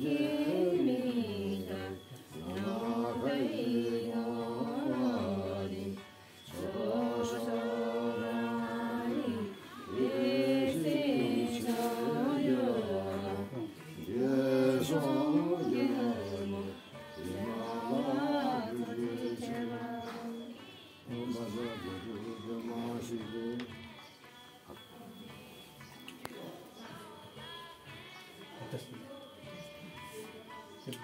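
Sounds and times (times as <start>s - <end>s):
voices singing a chant-like song: 0.0s - 31.0s.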